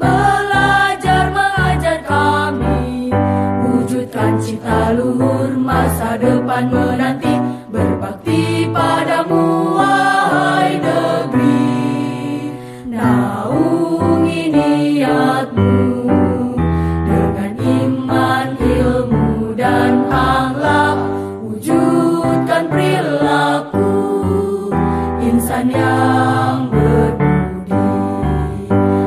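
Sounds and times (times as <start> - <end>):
choir singing a march song: 0.0 - 28.7.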